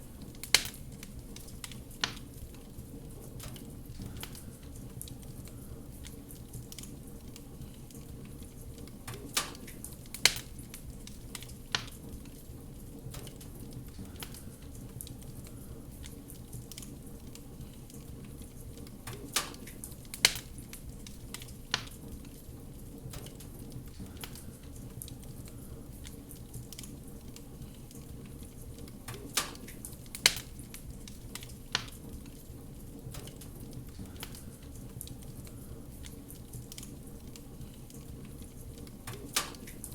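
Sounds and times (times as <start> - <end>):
wood fire crackling: 0.0 - 39.9
sharp fire pops: 0.2 - 2.7, 7.9 - 12.4, 13.0 - 17.0, 18.0 - 22.4, 23.0 - 39.9.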